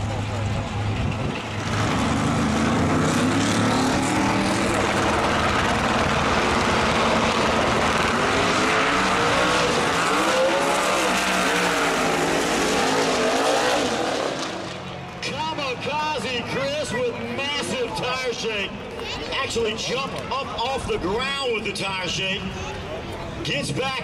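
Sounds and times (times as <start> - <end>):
drag racing car engines: 0.0 - 24.0.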